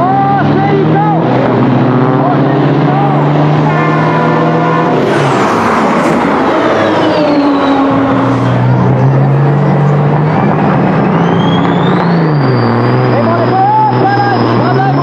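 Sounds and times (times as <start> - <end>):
diesel engines droning: 0.0 - 15.0
engines revving with whine: 0.0 - 15.0.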